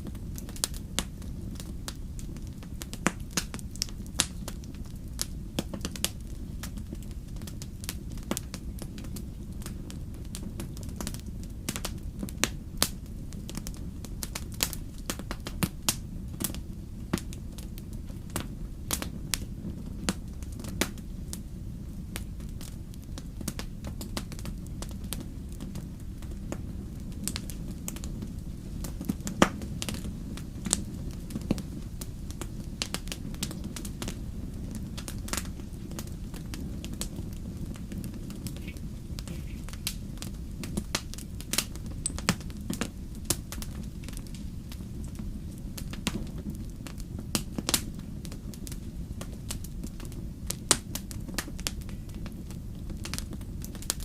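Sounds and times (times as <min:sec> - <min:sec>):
bonfire crackling and popping: 0:00.0 - 0:54.0.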